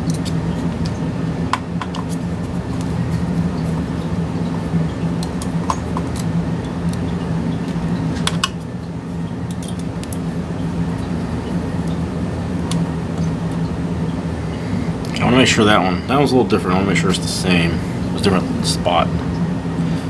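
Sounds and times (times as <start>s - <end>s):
fan hum: 0.0s - 20.0s.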